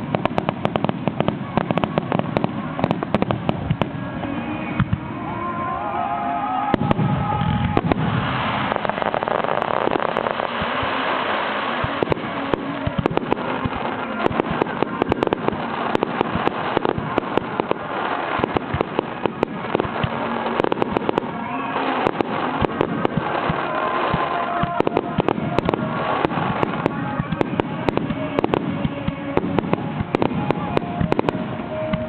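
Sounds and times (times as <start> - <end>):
rumble of firework bursts: 0.0 - 5.2, 6.7 - 32.0
fireworks crackling and popping: 0.0 - 5.4, 6.4 - 32.0.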